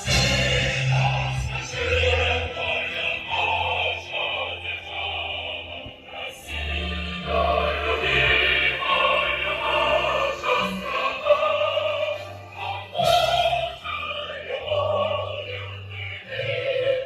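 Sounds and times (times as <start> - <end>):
choir singing sustained chords: 0.0 - 17.0
orchestra low bass notes: 0.0 - 17.0.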